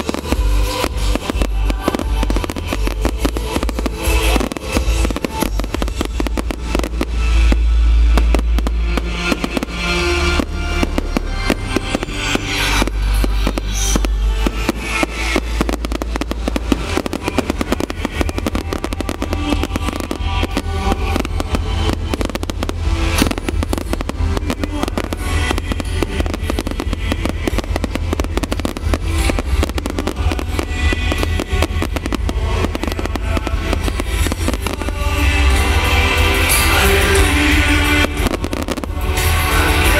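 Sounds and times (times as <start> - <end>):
fireworks crackling and banging: 0.0 - 39.9
music playing: 0.0 - 39.9.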